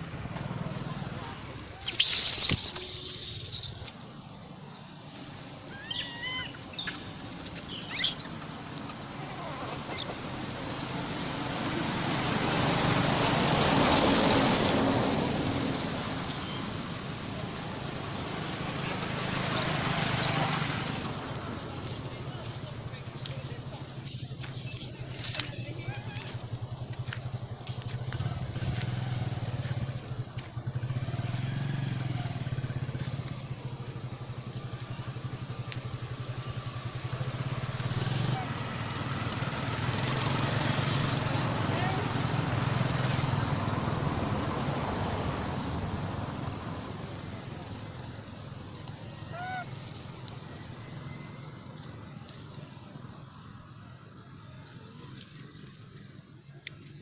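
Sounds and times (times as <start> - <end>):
motor vehicle passing by: 5.2 - 23.9, 25.1 - 53.5.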